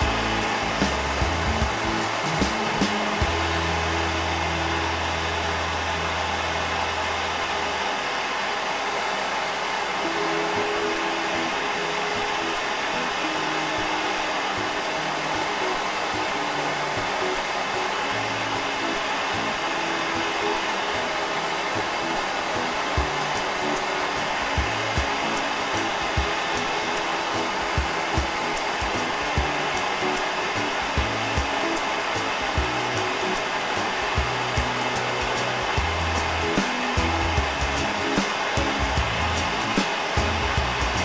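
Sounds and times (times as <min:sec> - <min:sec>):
faint background music: 0:00.0 - 0:08.7, 0:09.6 - 0:41.0
gas burner flame hissing: 0:00.0 - 0:41.0.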